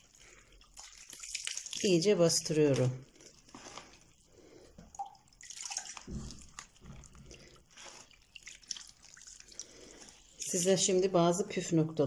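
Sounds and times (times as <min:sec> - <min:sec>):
liquid sloshing: 0:00.0 - 0:10.9
wet squishes: 0:00.0 - 0:11.0.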